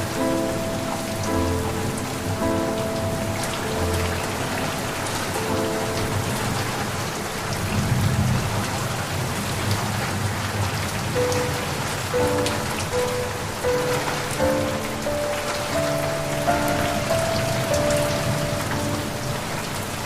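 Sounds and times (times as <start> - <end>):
soft sustained music notes: 0.0 - 7.7, 11.1 - 20.0
heavy rain pattering: 0.0 - 20.0.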